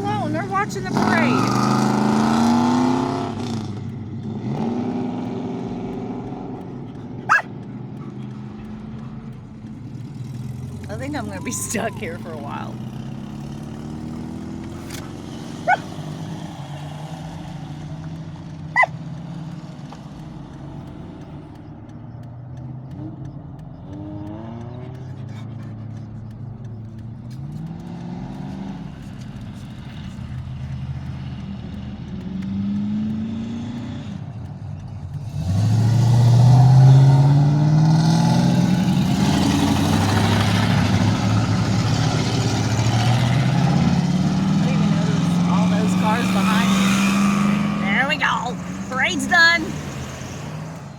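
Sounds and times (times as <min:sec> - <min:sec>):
loud engine accelerating past: 0:00.0 - 0:22.0, 0:22.7 - 0:50.9
old cars driving past: 0:00.0 - 0:50.9.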